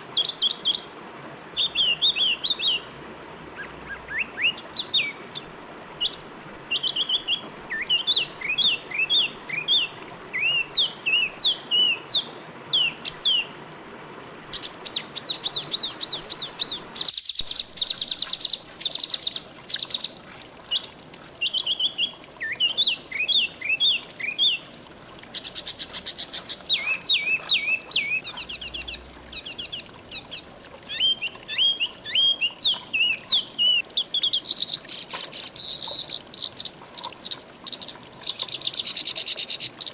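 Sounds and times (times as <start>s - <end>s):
songbird singing: 0.0s - 0.9s, 1.6s - 2.9s, 3.6s - 13.6s, 14.5s - 39.9s.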